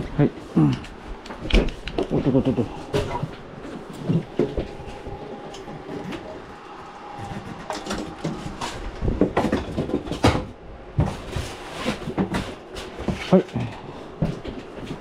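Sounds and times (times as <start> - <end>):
knocks and bumps: 1.1 - 13.2.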